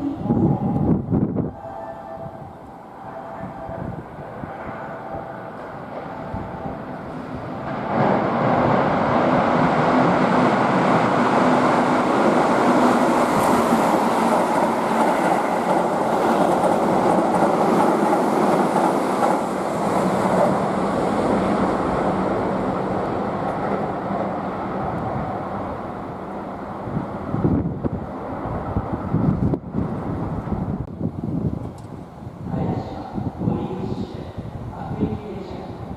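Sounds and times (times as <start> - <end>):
electric train passing: 0.0 - 35.9.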